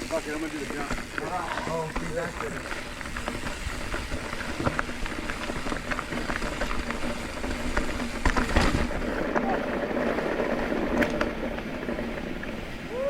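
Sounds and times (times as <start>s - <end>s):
bike tyres crunching on dirt: 0.0s - 13.0s.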